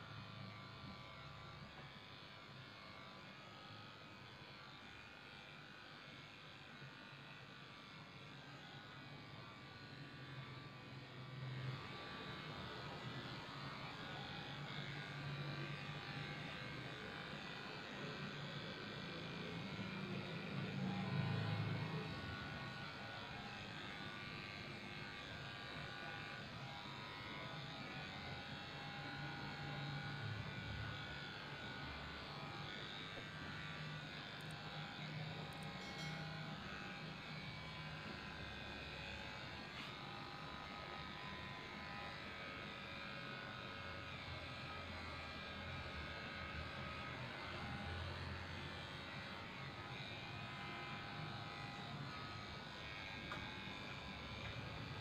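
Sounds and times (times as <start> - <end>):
electric clippers running: 0.0 - 55.0.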